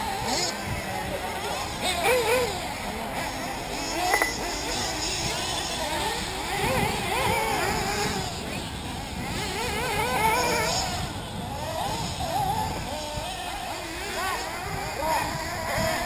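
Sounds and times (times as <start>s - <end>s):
small engines buzzing and revving: 0.0s - 16.0s.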